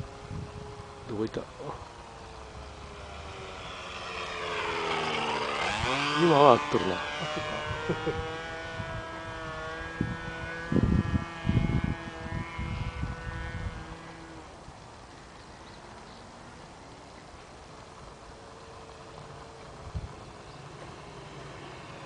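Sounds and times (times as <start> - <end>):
model airplane engine droning: 0.0 - 22.0.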